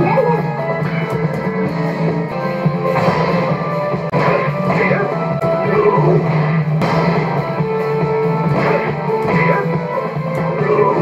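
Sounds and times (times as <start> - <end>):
rock music with electric guitar: 0.0 - 11.0.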